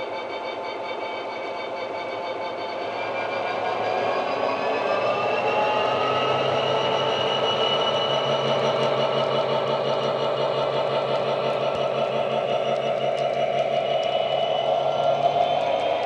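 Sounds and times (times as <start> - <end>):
diesel locomotive engine through small speaker: 0.0 - 16.0
high whine rising in pitch: 0.0 - 16.0.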